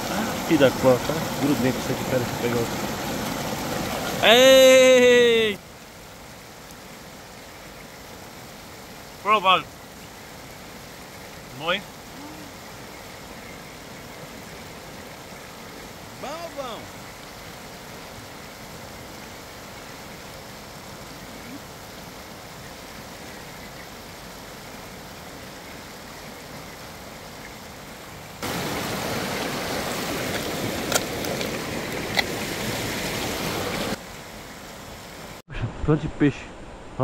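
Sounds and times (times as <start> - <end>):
river water flowing: 0.0 - 35.4.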